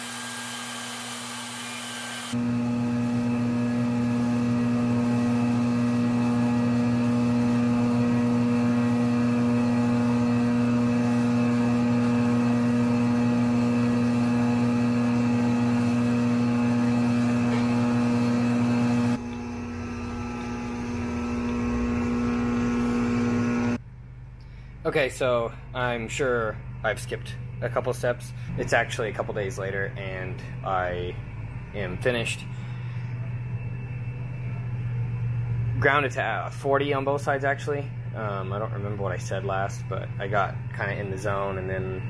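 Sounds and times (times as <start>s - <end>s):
grinding machine motor hum: 0.0s - 23.9s, 25.0s - 42.0s.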